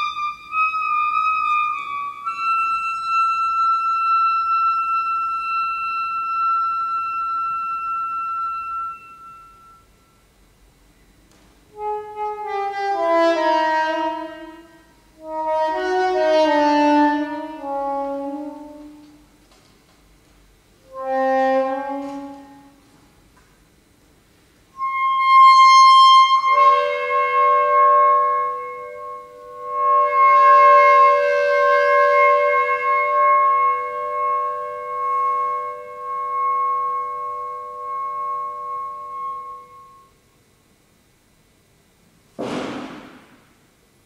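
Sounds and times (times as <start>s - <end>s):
solo saxophone: 0.0s - 10.4s, 11.3s - 19.5s, 20.8s - 23.3s, 24.7s - 40.7s.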